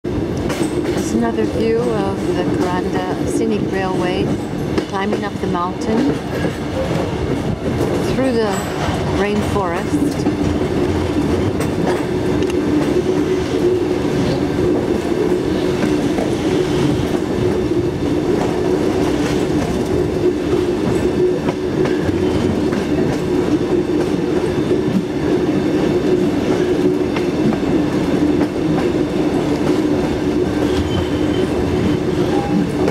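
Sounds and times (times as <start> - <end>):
train wheels rumbling on track: 0.0 - 32.9.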